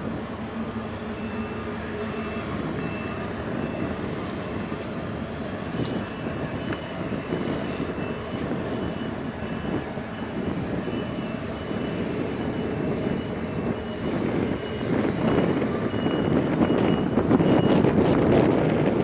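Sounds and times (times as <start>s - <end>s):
faint reversing alarm beeps: 1.1s - 18.2s
wind rumbling on microphone: 1.2s - 19.0s.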